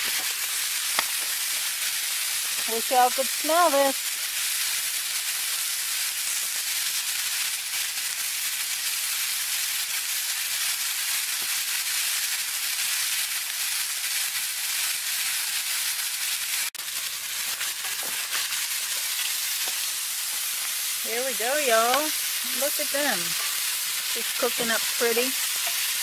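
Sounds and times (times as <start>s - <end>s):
food sizzling in skillet: 0.0s - 26.0s.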